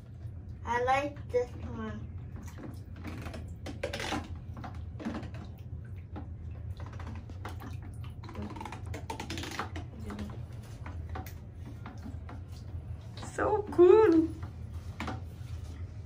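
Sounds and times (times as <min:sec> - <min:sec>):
water splashing in a basin: 0:00.0 - 0:16.0.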